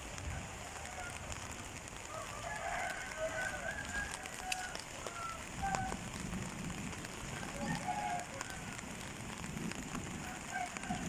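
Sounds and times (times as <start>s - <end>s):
steady rain falling: 0.0s - 11.0s
ticks of raindrops: 0.0s - 11.0s.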